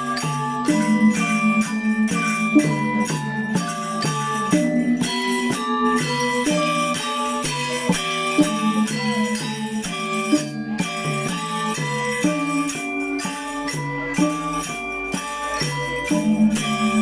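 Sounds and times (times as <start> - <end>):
gamelan ensemble melody: 0.0 - 17.0
jingling shimmer: 0.0 - 17.0.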